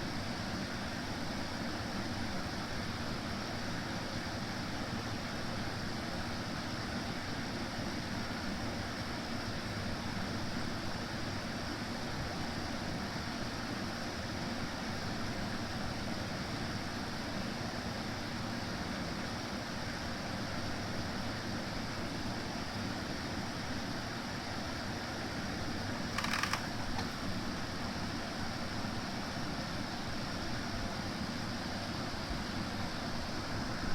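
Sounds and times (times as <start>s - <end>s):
air conditioner whirring: 0.0s - 33.9s.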